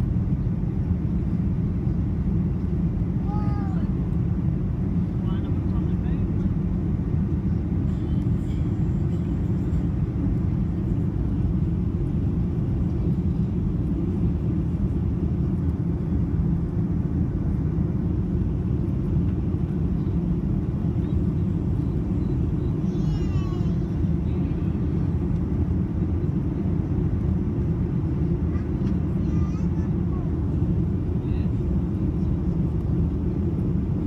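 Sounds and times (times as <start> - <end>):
airplane cabin rumble: 0.0 - 34.0.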